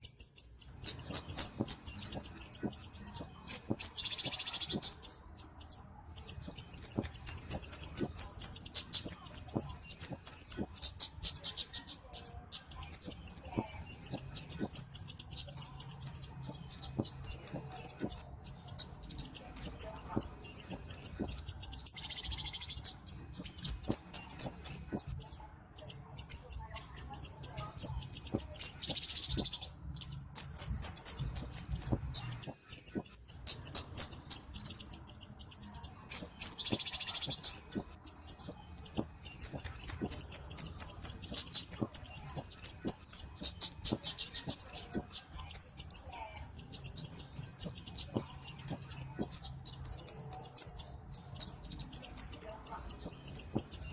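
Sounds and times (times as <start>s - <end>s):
bird chipping twitters: 0.0s - 53.9s.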